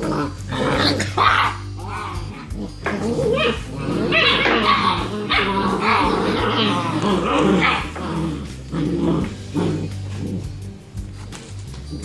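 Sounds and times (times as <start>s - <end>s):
puppies yipping and barking: 0.0s - 10.5s.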